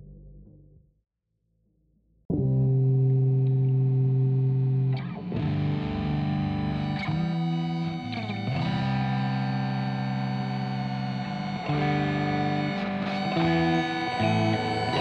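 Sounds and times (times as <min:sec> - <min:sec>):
distorted electric guitar chords: 0:02.4 - 0:15.0.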